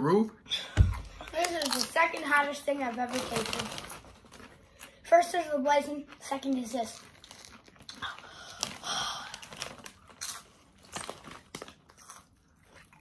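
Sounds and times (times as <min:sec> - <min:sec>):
chip bag crinkling: 0:01.1 - 0:05.0, 0:06.1 - 0:13.0.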